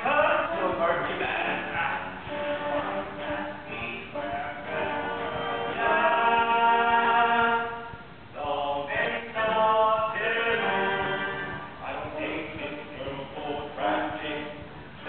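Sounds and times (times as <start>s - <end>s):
voices singing held notes: 0.0s - 15.0s.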